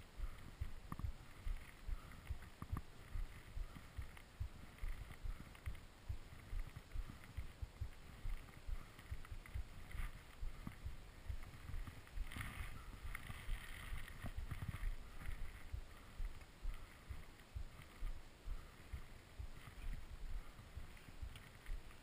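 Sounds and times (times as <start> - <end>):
low thumps: 0.1 - 21.9
wind buffeting microphone: 0.1 - 22.0.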